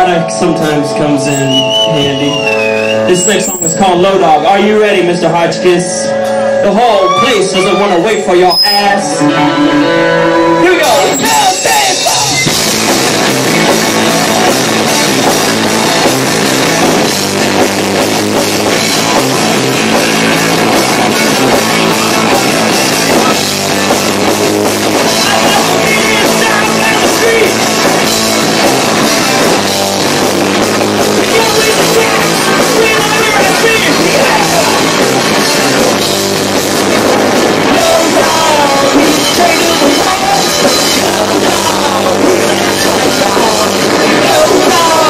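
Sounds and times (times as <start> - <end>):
distorted live rock band: 0.0 - 45.0.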